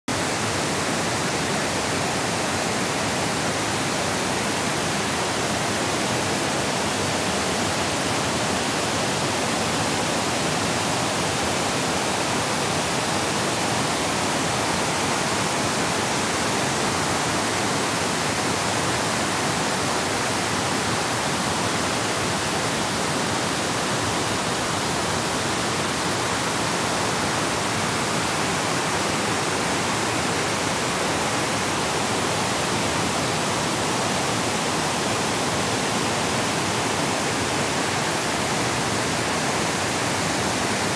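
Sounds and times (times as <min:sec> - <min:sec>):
river water rushing over weirs: 0:00.1 - 0:40.9.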